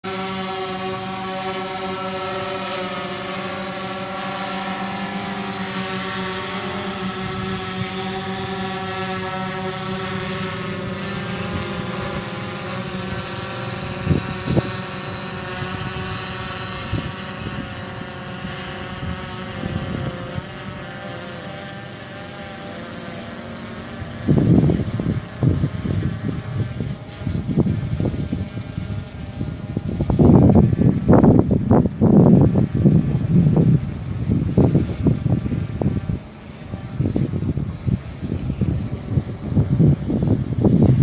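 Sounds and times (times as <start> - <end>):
motor humming: 0.0 - 41.0.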